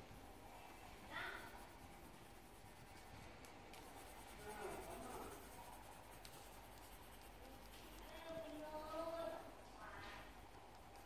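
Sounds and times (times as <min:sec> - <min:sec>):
pen scratching on paper: 0:00.0 - 0:08.9.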